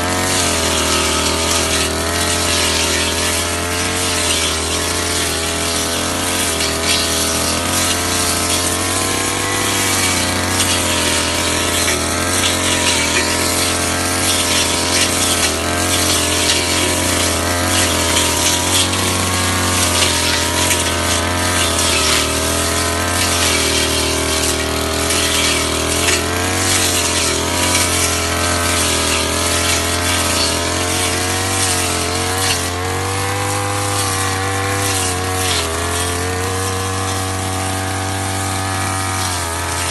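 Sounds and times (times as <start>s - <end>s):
brush cutter engine running: 0.0s - 39.9s
cutting head mowing grass: 0.0s - 39.9s.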